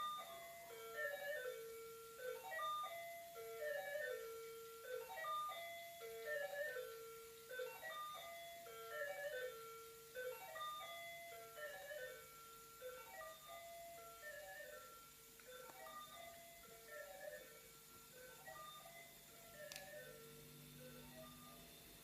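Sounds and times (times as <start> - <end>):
electronic toy beeping tune: 0.0 - 22.0.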